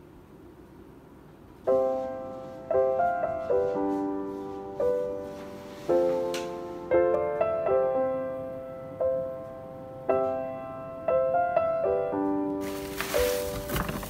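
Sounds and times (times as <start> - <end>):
gentle solo piano piece: 1.6 - 14.0.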